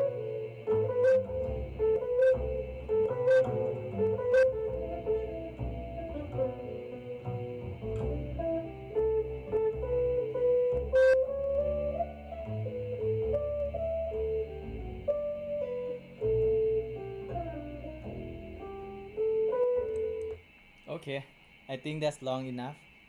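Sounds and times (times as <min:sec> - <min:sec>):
jazz music over loudspeakers: 0:00.0 - 0:20.4.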